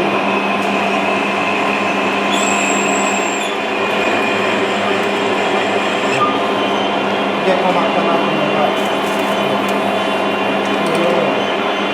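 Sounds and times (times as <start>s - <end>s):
metal lathe cutting steel: 0.0s - 11.9s.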